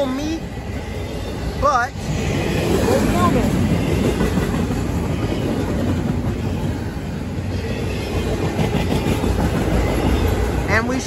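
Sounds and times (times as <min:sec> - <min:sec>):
steel wheels on rails: 0:00.0 - 0:11.0.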